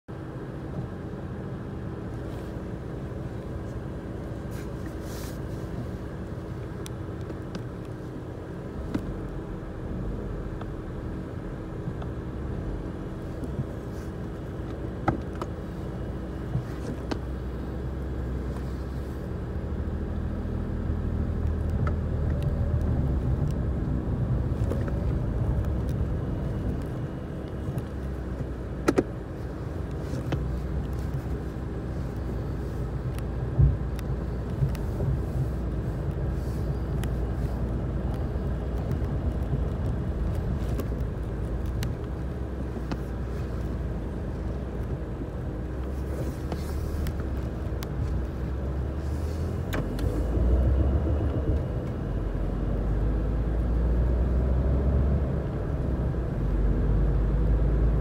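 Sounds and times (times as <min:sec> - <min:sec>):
car engine hum and road rumble: 0:00.1 - 0:58.0.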